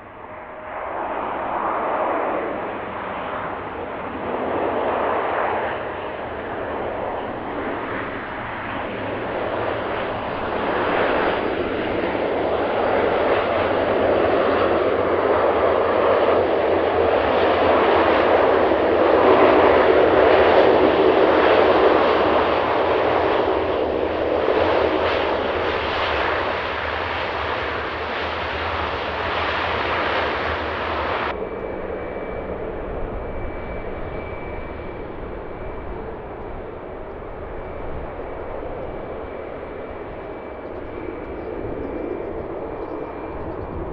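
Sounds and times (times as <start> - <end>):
airliner engines passing: 0.0 - 43.9.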